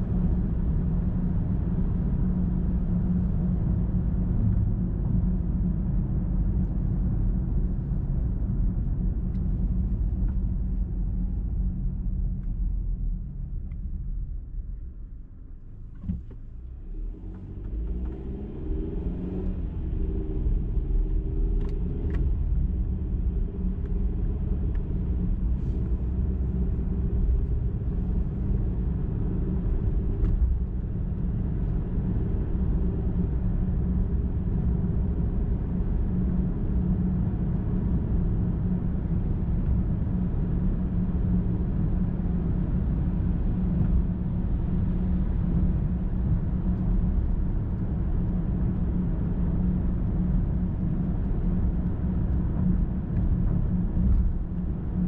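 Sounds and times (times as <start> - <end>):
wavering engine hum: 0.0 - 55.0.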